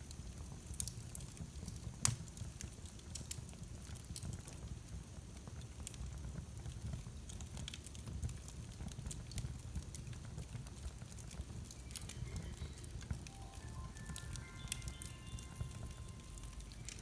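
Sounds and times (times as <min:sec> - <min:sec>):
fire popping and snapping: 0:00.6 - 0:17.0.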